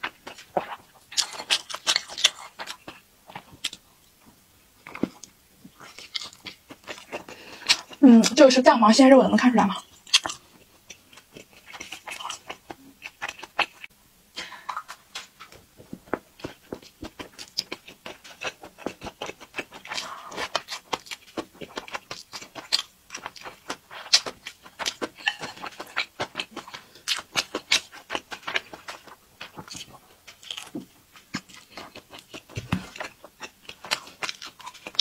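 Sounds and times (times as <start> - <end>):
close chewing with mouth clicks: 0.0 - 4.2, 4.8 - 8.5, 9.6 - 35.0.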